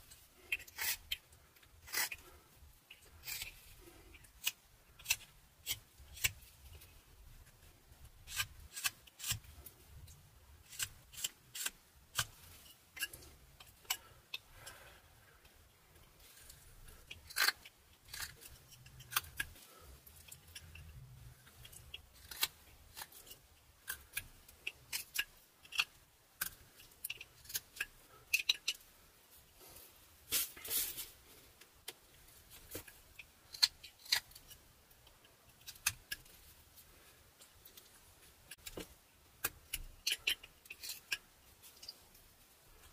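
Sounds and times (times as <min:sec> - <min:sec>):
knife carving wood: 0:00.0 - 0:14.8, 0:16.0 - 0:29.0, 0:31.8 - 0:42.2.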